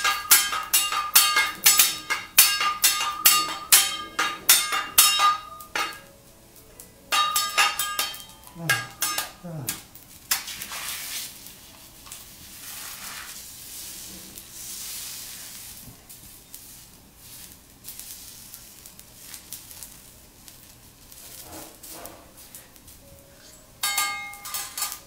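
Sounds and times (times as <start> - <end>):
egg sizzling on a griddle: 0.0 - 6.1, 7.1 - 25.0.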